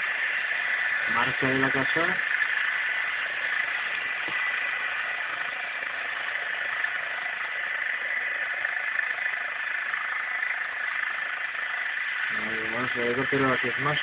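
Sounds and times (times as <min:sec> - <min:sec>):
helicopter rushing noise: 0:00.0 - 0:14.0
helicopter turbine whine: 0:00.0 - 0:14.0.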